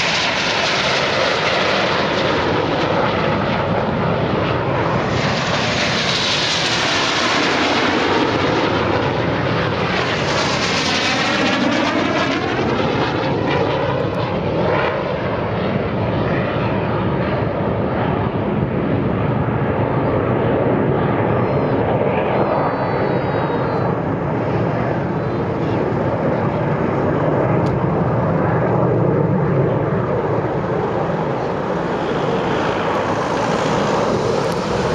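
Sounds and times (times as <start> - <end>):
jet engines rushing overhead: 0.0 - 34.9.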